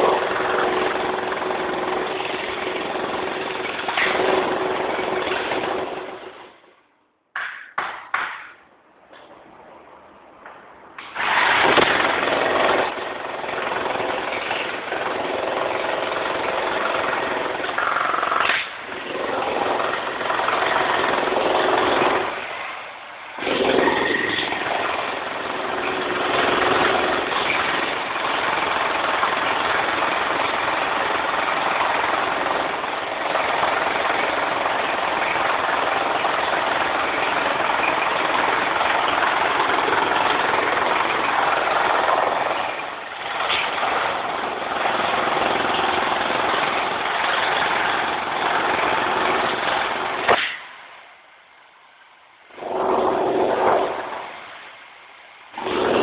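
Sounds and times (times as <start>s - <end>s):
demolition hammer chipping concrete: 0.0s - 6.5s, 11.0s - 22.8s, 23.4s - 50.7s, 52.6s - 54.6s, 55.6s - 56.0s.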